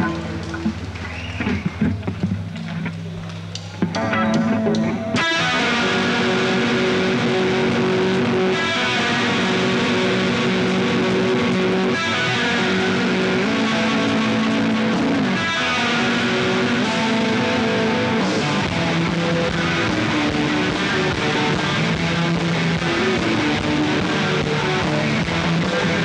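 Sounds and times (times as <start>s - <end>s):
live rock band playing: 0.0s - 2.2s, 3.6s - 26.0s.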